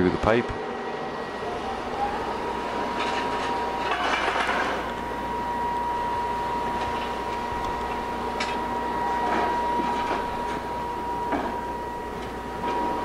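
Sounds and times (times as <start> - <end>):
drilling rig drone: 0.0 - 13.0
high machine whine: 0.0 - 13.0.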